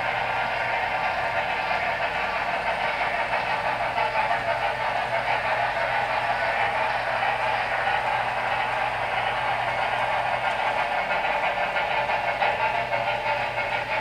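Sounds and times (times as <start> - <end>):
freight cars clattering over track: 0.0 - 14.0
model train steam chuffing: 0.0 - 14.0.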